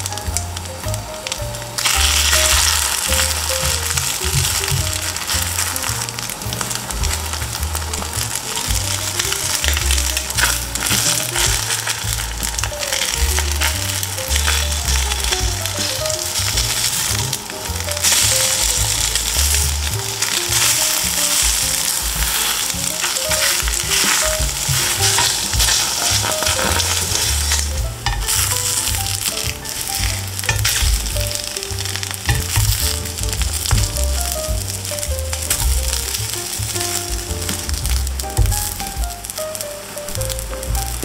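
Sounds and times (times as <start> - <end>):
pancakes sizzling in oil: 0.0 - 41.0
spatula scraping and tapping pan: 1.2 - 39.4.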